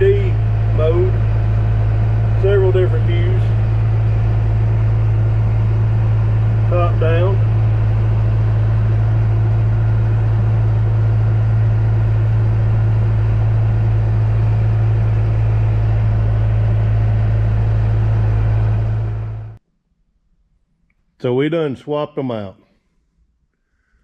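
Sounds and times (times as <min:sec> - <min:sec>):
tractor engine hum from cab: 0:00.0 - 0:19.6.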